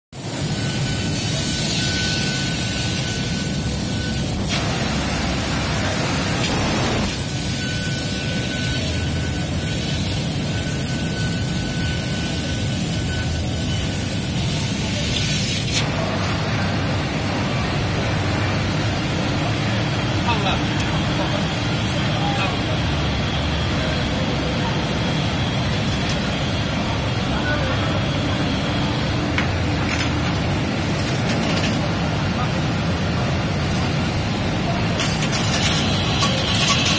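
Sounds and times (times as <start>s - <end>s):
laser cutting machine: 0.2s - 36.9s.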